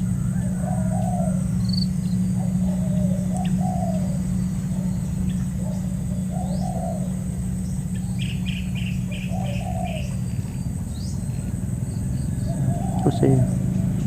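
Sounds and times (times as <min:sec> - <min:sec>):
doves cooing: 0:00.0 - 0:14.0
small bird chirping: 0:00.0 - 0:14.0
steady low hum: 0:00.0 - 0:14.0.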